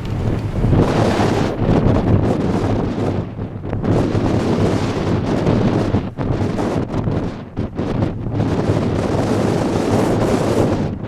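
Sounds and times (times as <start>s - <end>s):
gusting wind on microphone: 0.0s - 11.0s.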